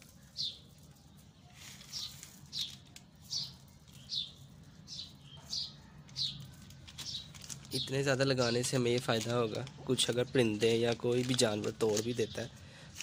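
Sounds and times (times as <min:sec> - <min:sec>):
small bird chirping: 0:00.0 - 0:10.8.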